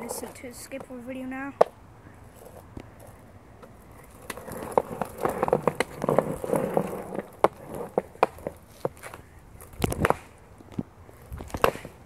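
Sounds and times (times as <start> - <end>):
skateboard wheels on concrete: 0.0 - 12.0.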